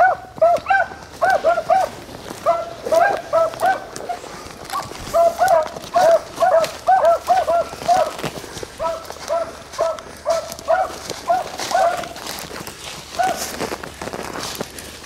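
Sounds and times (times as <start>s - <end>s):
hounds yelping: 0.0s - 12.3s, 13.1s - 13.6s.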